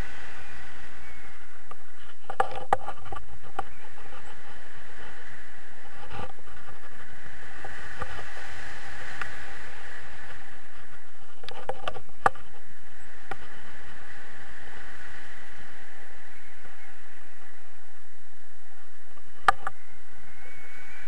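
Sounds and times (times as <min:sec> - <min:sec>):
airflow rushing on microphone: 0:00.0 - 0:21.0.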